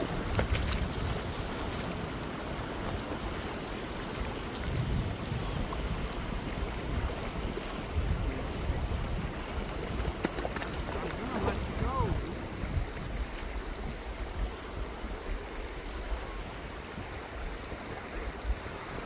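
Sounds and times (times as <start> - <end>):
river rushing: 0.0 - 19.0
wind on microphone: 0.0 - 19.0.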